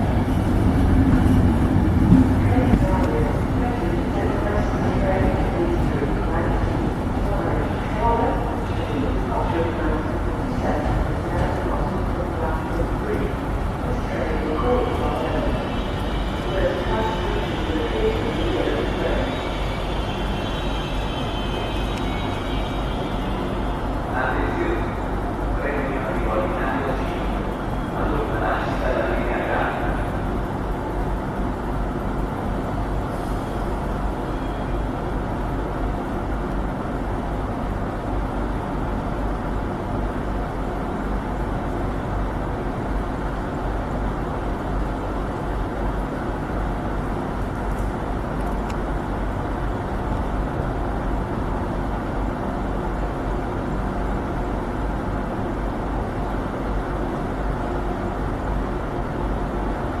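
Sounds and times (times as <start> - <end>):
train rumbling: 0.0 - 60.0.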